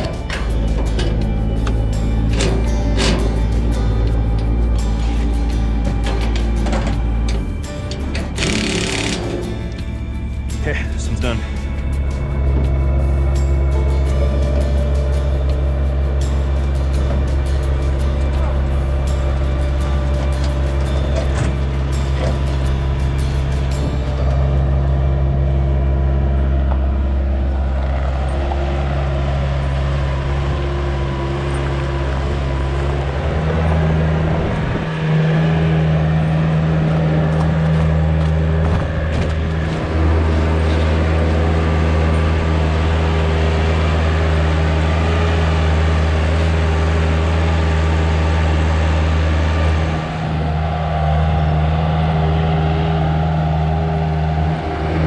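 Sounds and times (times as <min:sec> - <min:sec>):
loader diesel engine running: 0:00.0 - 0:55.0.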